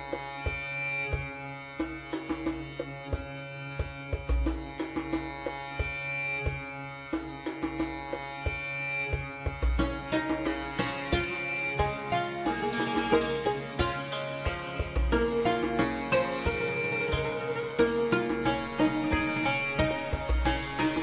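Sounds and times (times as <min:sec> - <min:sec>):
drum strokes: 0:00.1 - 0:21.0.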